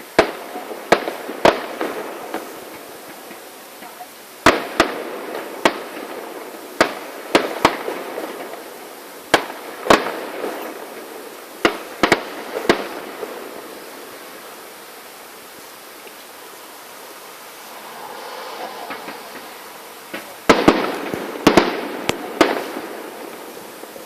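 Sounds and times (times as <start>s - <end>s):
fireworks bangs and crackle: 0.0s - 24.0s.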